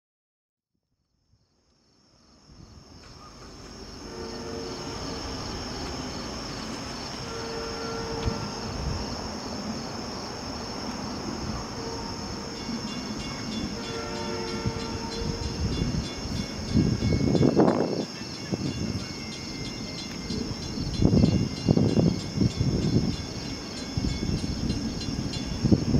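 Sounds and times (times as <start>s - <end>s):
crickets chirping: 1.2s - 25.9s
diesel locomotive rumble: 2.5s - 25.9s
distant locomotive horn blasts: 3.1s - 9.6s, 10.8s - 25.9s.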